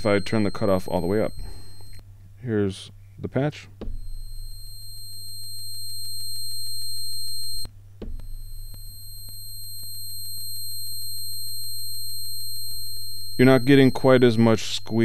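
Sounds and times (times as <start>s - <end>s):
high piercing synthesizer tone: 0.0s - 2.0s, 4.0s - 15.0s.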